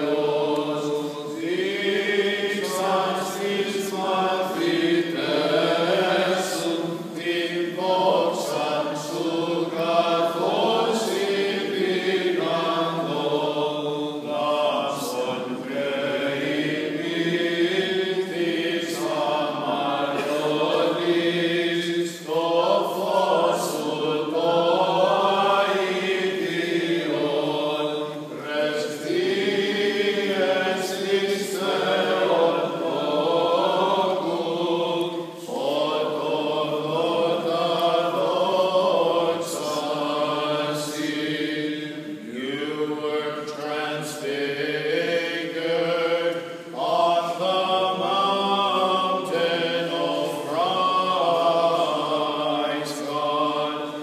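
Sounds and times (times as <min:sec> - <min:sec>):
voices chanting held phrases: 0:00.0 - 0:54.0.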